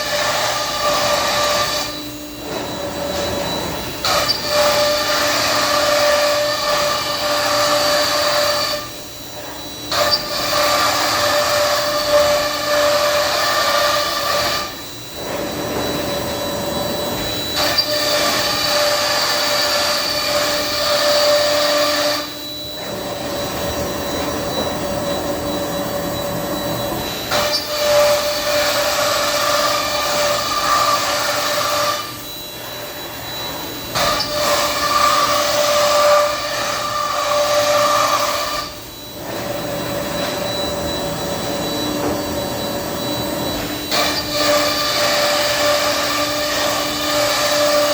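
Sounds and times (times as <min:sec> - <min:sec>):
router cutting noise: 0:00.0 - 0:32.5, 0:33.1 - 0:47.9
cnc router spindle whine: 0:00.0 - 0:47.9.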